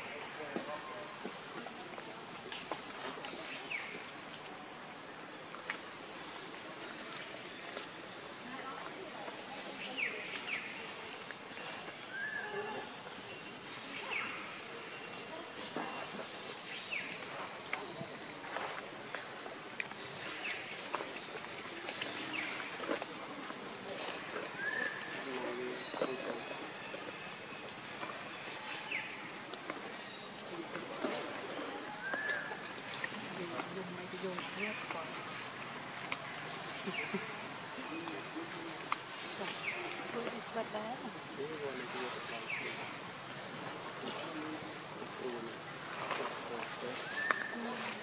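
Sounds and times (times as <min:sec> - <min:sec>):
insects droning: 0:00.0 - 0:48.0.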